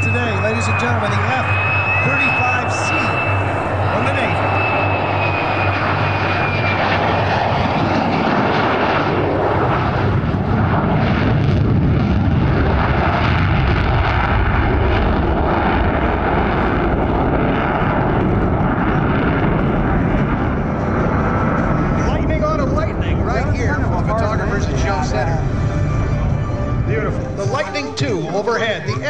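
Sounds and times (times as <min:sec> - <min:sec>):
deep crackling rumble: 0:00.0 - 0:27.4
high jet whine: 0:00.0 - 0:29.0
jet engine roaring: 0:00.0 - 0:29.0.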